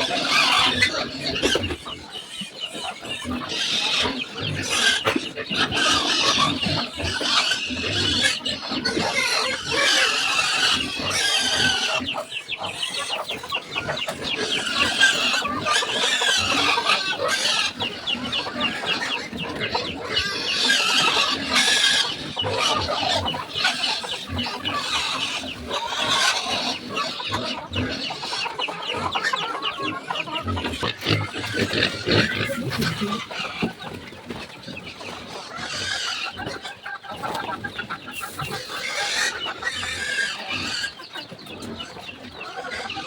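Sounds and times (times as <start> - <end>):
chickens clucking: 0.0 - 43.0
pigs: 0.0 - 43.0.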